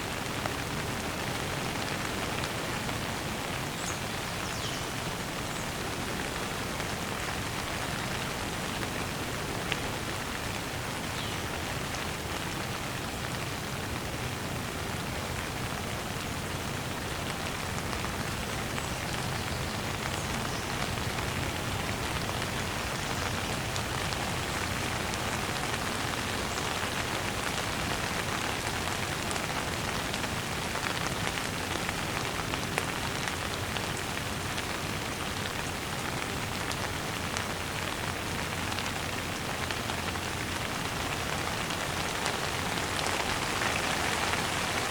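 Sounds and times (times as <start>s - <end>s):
rain on a hard surface: 0.0s - 44.9s.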